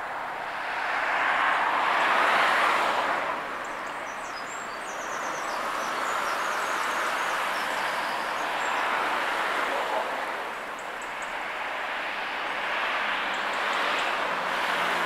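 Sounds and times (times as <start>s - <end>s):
car engine and tyres on tarmac: 0.0s - 15.0s.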